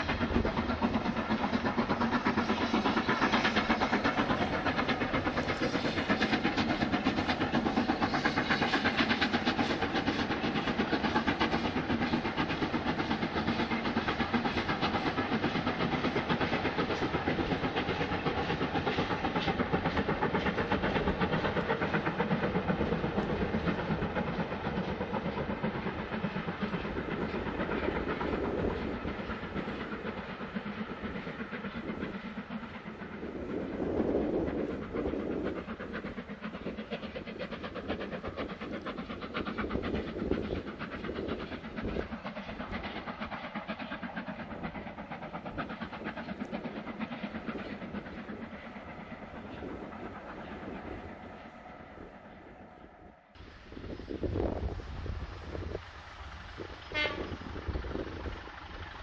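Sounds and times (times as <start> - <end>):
steam train rumbling and clattering: 0.0 - 59.0.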